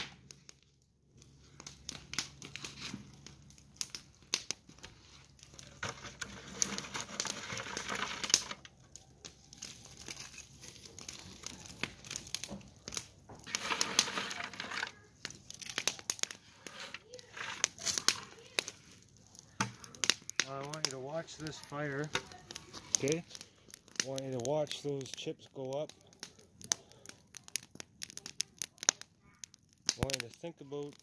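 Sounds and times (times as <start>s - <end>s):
wood chips rustling: 0.0s - 29.0s, 29.9s - 31.0s
fire crackling: 0.0s - 31.0s.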